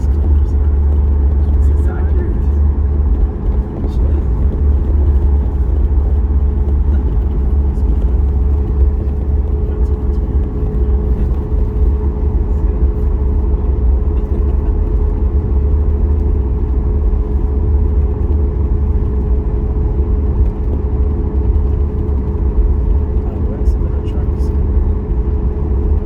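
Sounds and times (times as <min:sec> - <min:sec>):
airplane cabin low rumble: 0:00.0 - 0:26.0
constant hum: 0:00.0 - 0:26.0.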